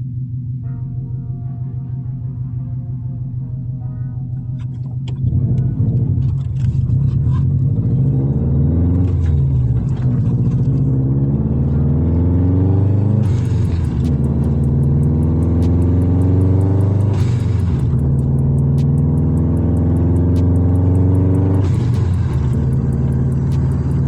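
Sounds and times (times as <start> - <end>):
car engine exhaust rumble: 0.0 - 24.0.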